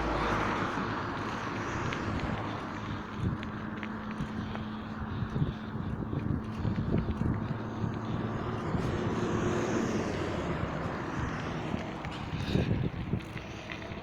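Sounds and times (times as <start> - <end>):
hum of engines: 0.0 - 14.0.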